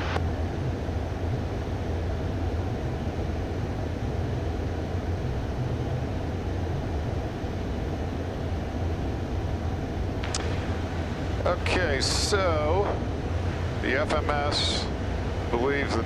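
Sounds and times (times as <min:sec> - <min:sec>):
deep low drone: 0:00.0 - 0:16.0
jet cockpit airflow rush: 0:00.8 - 0:16.0.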